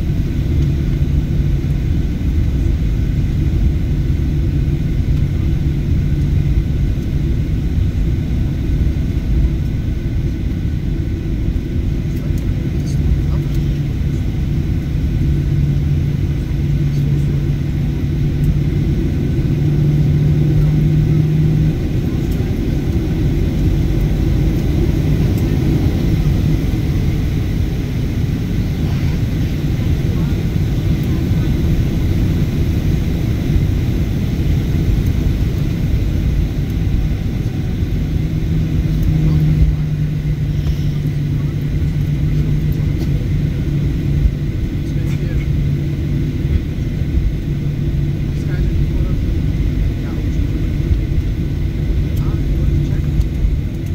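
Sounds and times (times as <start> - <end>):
airliner cabin rumble: 0.0 - 53.9
low engine hum: 0.0 - 53.9.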